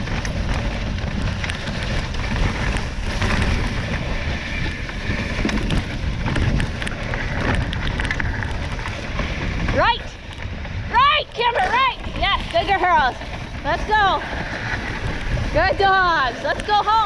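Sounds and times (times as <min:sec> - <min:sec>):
sled runners gliding over snow: 0:00.0 - 0:17.0
wind noise on microphone: 0:00.0 - 0:17.0.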